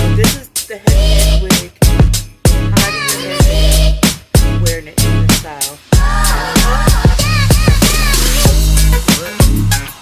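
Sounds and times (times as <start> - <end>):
hip-hop track with heavy bass: 0.0 - 10.0.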